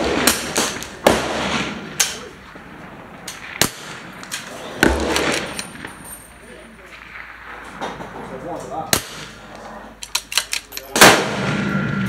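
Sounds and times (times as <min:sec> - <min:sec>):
rifle shots with echo: 0:00.0 - 0:12.0.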